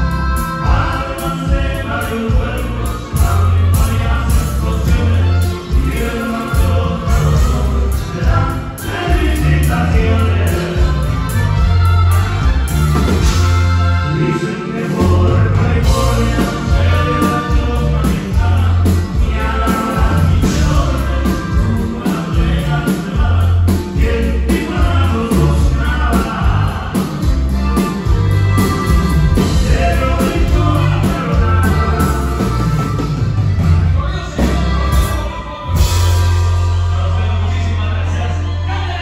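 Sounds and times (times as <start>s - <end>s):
person singing: 0.0s - 12.2s, 13.4s - 28.2s, 29.4s - 39.0s
live band music: 0.0s - 39.0s.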